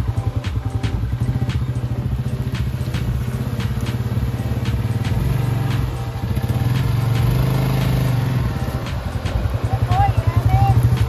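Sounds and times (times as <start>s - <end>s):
atv engine running: 0.0s - 11.0s
sharp ticks: 0.0s - 11.0s.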